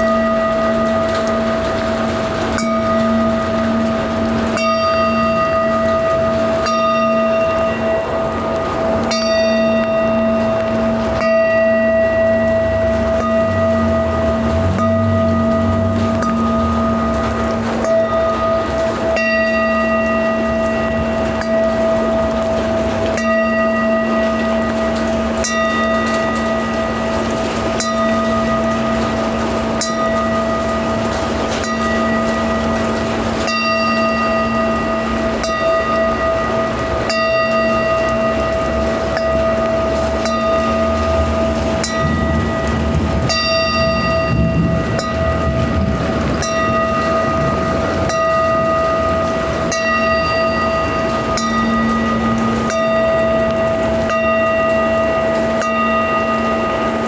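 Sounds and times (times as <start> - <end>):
bell ringing: 0.0 - 57.0
humming drone: 0.0 - 57.0
rain-like hiss: 0.0 - 57.0.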